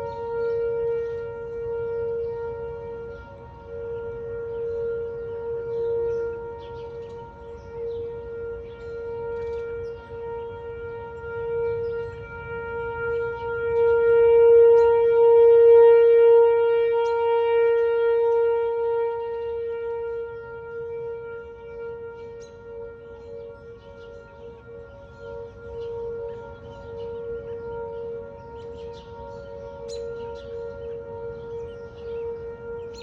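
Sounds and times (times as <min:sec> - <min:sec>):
tornado warning siren: 0:00.0 - 0:33.0.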